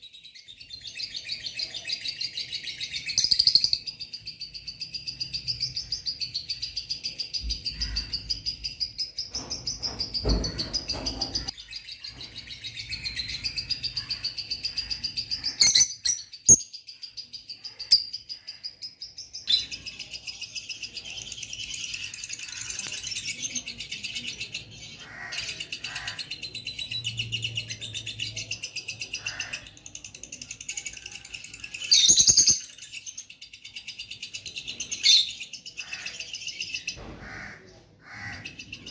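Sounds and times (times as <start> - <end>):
lovebirds chattering: 0.0 - 38.9.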